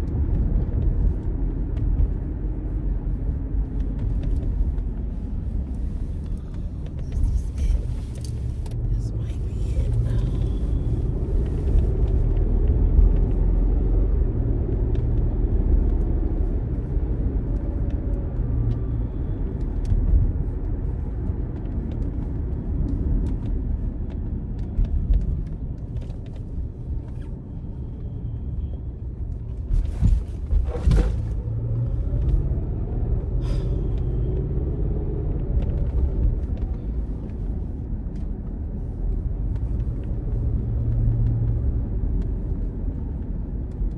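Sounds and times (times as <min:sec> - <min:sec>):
car road and engine rumble: 0:00.0 - 0:43.9.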